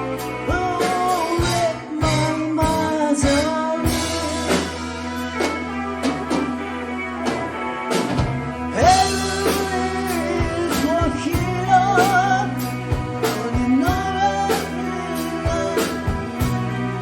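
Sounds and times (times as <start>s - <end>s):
drums beating: 0.0s - 17.0s
person singing with vibrato: 0.0s - 17.0s
rock band playing live: 0.0s - 17.0s
sustained bass notes: 0.0s - 17.0s.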